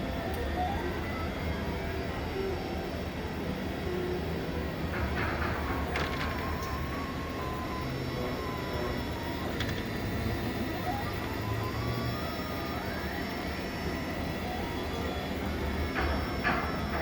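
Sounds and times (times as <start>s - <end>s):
faint falling whine: 0.0s - 17.0s.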